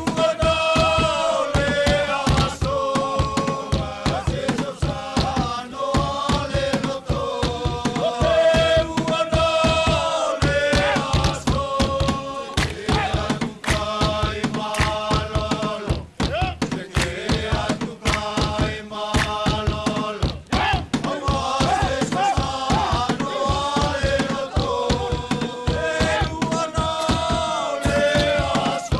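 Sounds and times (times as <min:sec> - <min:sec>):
fast percussion beat: 0:00.0 - 0:28.9
group singing a chant: 0:00.0 - 0:28.9.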